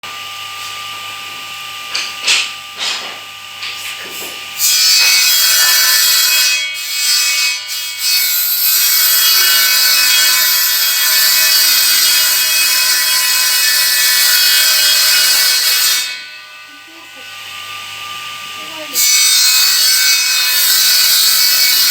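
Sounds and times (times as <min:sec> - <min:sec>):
angle grinder grinding: 0:00.6 - 0:21.9.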